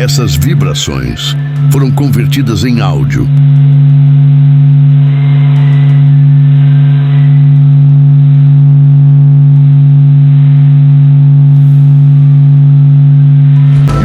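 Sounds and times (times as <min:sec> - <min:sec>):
deep constant hum: 0:00.0 - 0:14.0.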